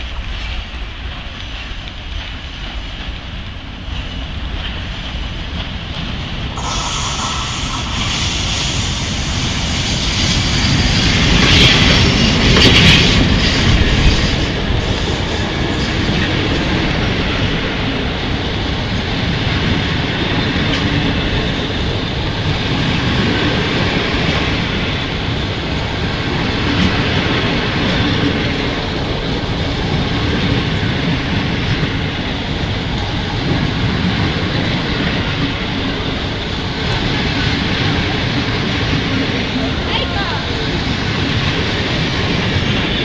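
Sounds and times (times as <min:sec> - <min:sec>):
steel wheels rumbling on rail: 0:00.0 - 0:43.0.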